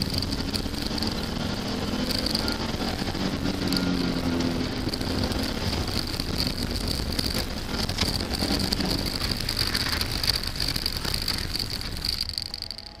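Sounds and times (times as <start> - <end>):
car engine running at speed: 0.0 - 13.0
high-pitched whine: 0.0 - 13.0
tyre noise on wet road: 0.0 - 13.0.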